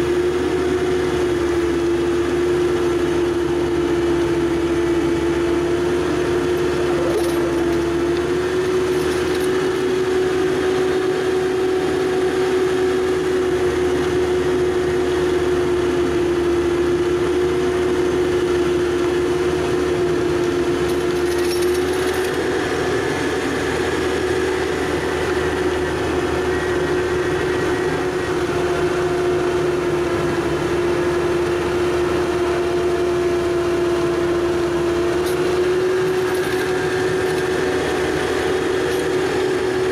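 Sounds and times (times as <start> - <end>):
loader engine running: 0.0 - 39.9
snowblower whine: 0.0 - 39.9.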